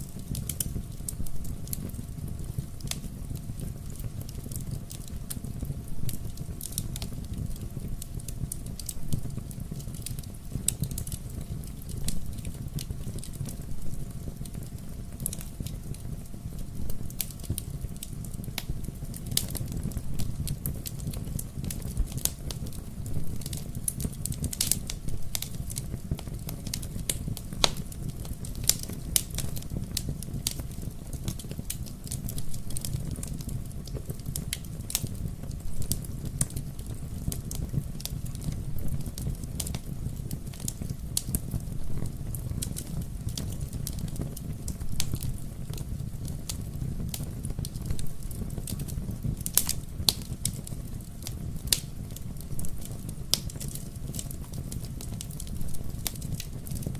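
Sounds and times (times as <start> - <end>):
fireplace fire crackling: 0.0 - 56.9.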